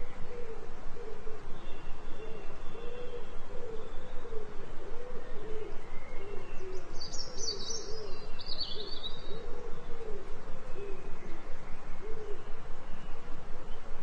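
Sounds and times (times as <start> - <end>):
bird hooting: 0.0 - 13.4.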